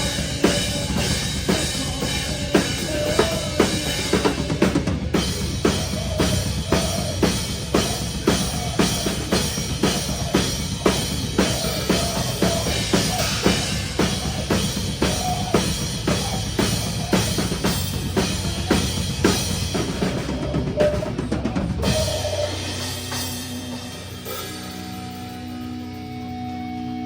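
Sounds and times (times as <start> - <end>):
band playing heavy low-end: 0.0 - 27.0
metal drum kit: 0.0 - 27.0.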